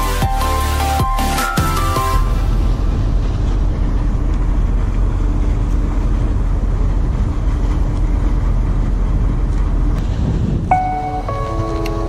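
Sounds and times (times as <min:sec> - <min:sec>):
ship machinery rumble: 0:00.0 - 0:12.0.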